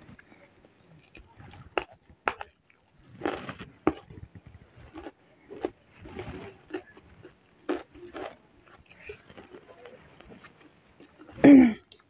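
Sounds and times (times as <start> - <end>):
person chewing food: 1.0 - 12.0.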